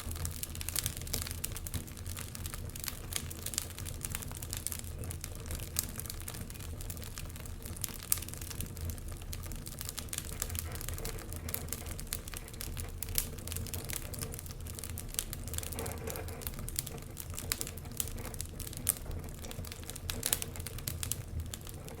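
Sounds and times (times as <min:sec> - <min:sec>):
logs crackling and popping in fireplace: 0:00.0 - 0:22.0
low fire rumble: 0:00.0 - 0:22.0.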